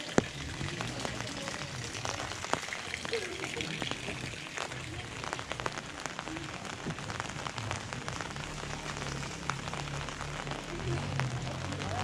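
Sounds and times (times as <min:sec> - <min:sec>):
rain on an umbrella: 0:00.0 - 0:12.0.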